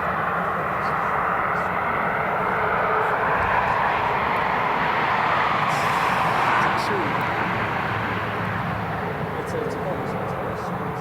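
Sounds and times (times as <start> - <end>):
jet aircraft engine rushing: 0.0 - 11.0.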